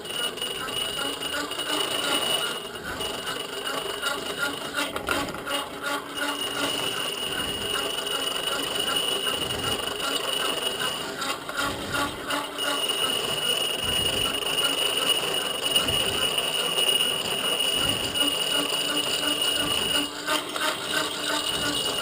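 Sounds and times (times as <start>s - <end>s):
grinding wheel squealing on steel: 0.0s - 22.0s.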